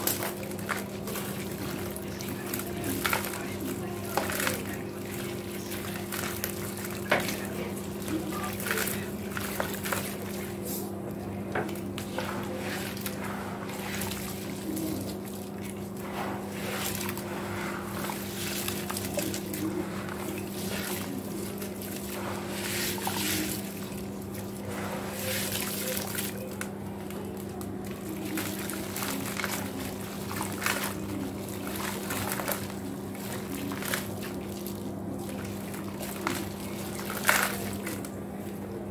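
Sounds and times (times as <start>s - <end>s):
steady low hum: 0.0s - 38.9s
water splashing and sloshing: 0.0s - 38.9s.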